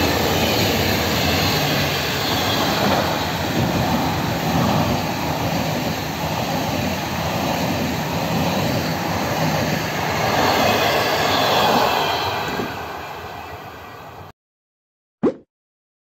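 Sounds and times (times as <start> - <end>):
train rumbling past: 0.0 - 14.3.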